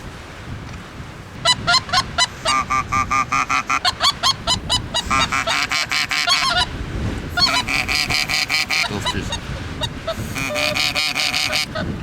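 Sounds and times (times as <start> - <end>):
strong wind rumble: 0.0 - 12.0
geese honking: 1.4 - 12.0.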